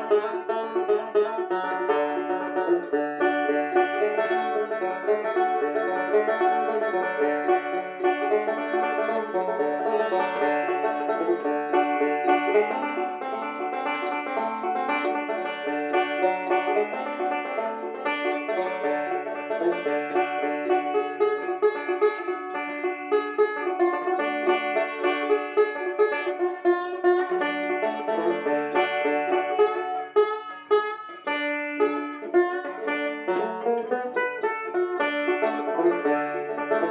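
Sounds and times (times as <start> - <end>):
fingerpicked banjo: 0.0 - 36.9.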